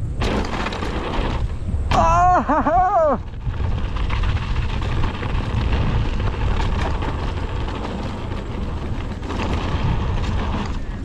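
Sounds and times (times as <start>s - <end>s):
bike tyres rolling over gravel: 0.0s - 11.0s
stones and bike rattling: 0.0s - 11.0s
wind rumbling on microphone: 0.0s - 11.0s.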